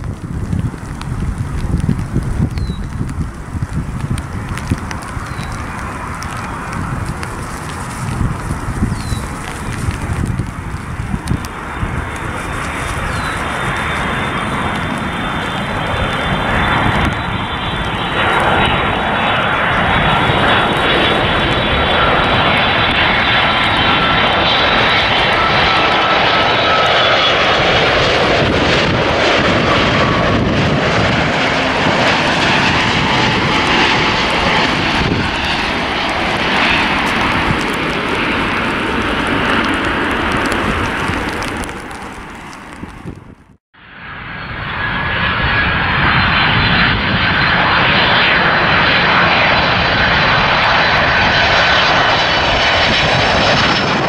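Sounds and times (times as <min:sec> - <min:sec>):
jet airliner passing with whine: 0:00.0 - 0:54.0.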